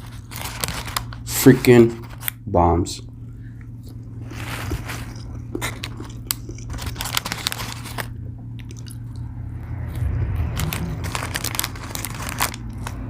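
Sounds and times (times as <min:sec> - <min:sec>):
biting and chewing crisp food: 0:00.0 - 0:02.4, 0:03.6 - 0:13.0.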